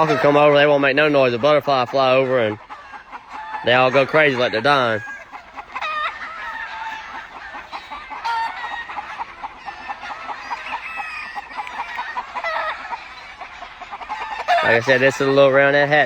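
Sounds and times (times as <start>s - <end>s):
chickens squawking and cackling: 0.0s - 16.0s.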